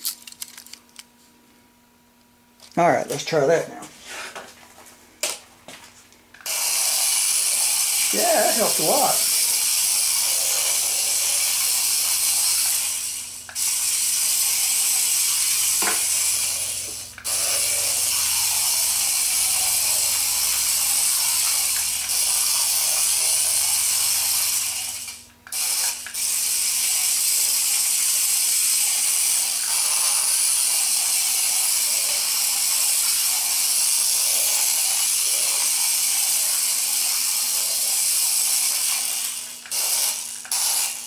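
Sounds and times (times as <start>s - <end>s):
toy car motor whirring: 0.0s - 1.0s, 6.4s - 41.0s.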